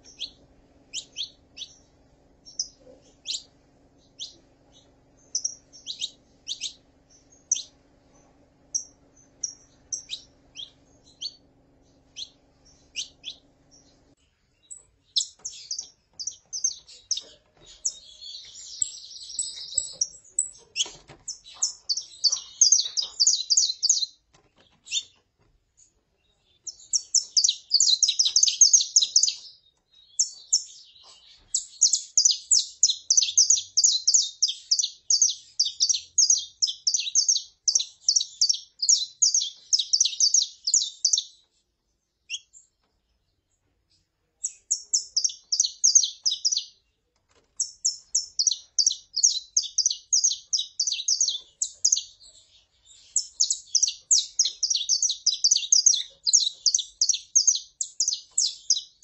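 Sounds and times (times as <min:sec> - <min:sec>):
finch calling: 0:00.0 - 0:25.2, 0:26.6 - 0:41.5, 0:44.4 - 0:46.8, 0:47.6 - 0:59.0
finch singing high chipping notes: 0:00.0 - 0:25.2, 0:26.2 - 0:41.4, 0:44.4 - 0:46.8, 0:47.6 - 0:59.0.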